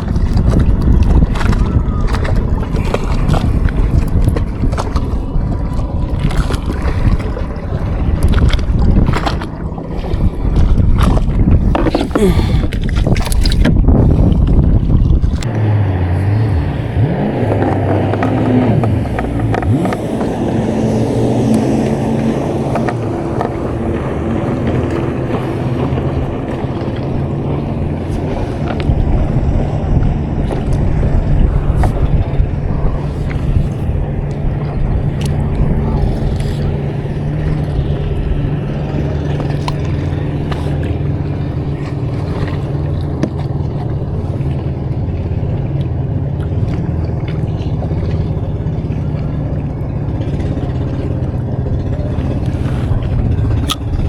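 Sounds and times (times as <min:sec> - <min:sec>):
boat engine running: 0:00.0 - 0:54.0
water noise: 0:00.0 - 0:54.0
wind: 0:00.0 - 0:54.0.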